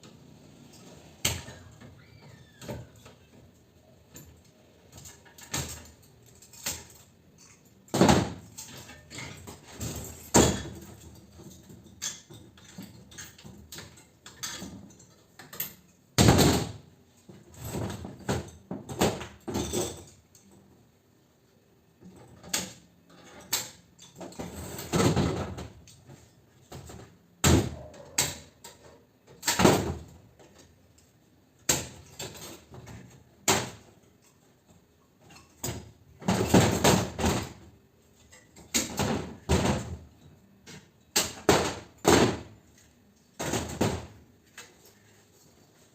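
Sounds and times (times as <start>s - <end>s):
metal parts knocking and clanking: 2.6s - 20.6s, 22.0s - 45.1s.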